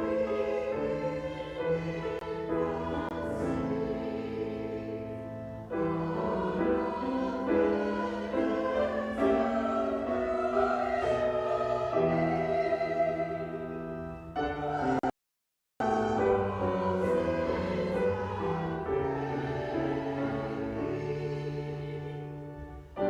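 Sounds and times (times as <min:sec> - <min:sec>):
choir singing sustained chords: 0:00.0 - 0:15.1, 0:15.8 - 0:23.0.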